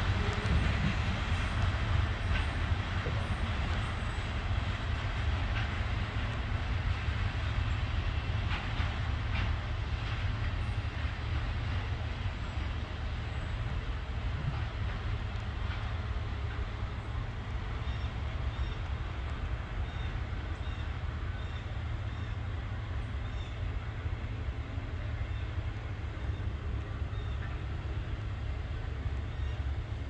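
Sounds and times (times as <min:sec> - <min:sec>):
faint clicks over rail joints: 0:00.0 - 0:30.0
freight train wheels rumbling on rails: 0:00.0 - 0:30.0.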